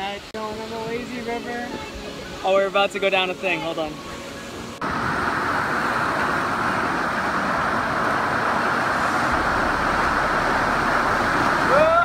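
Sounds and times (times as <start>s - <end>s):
rushing whitewater: 0.0s - 12.0s.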